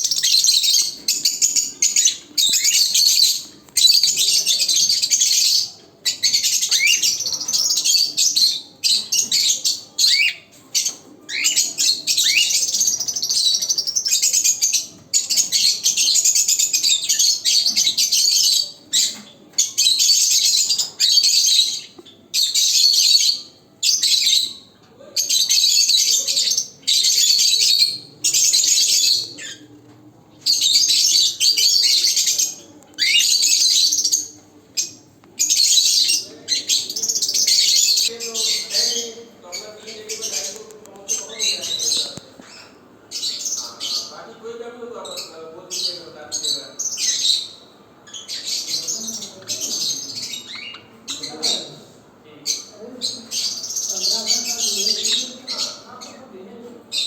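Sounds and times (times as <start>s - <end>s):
lovebirds chattering and screeching: 0.0s - 57.0s.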